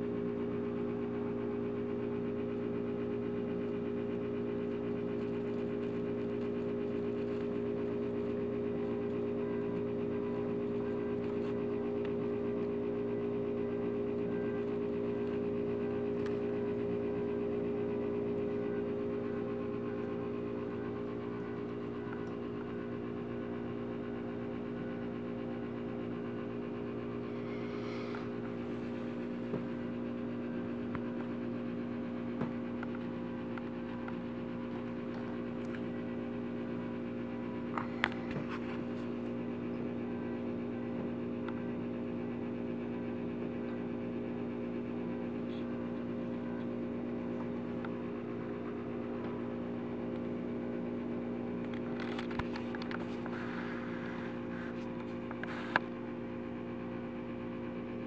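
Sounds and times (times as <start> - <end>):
steady mechanical hum: 0.0 - 58.0.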